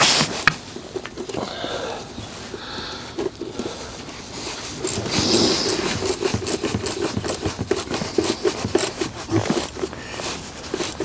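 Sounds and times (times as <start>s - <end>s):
clicks and knocks of parts handled: 0.0s - 1.4s, 3.2s - 11.0s.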